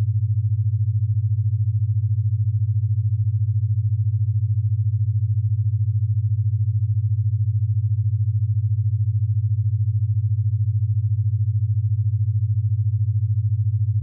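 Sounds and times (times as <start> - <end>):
low throbbing hum: 0.0 - 14.0.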